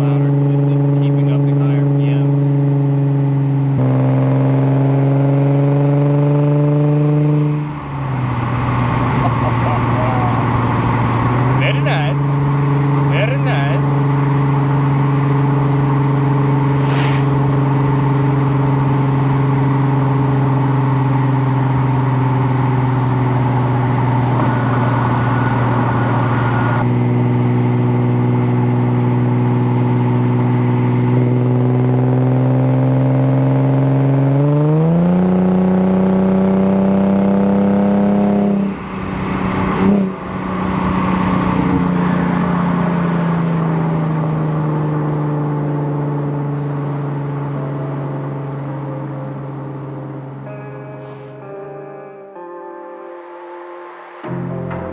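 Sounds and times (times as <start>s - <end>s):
car accelerating: 0.0s - 54.9s
car exhaust note: 0.0s - 54.9s.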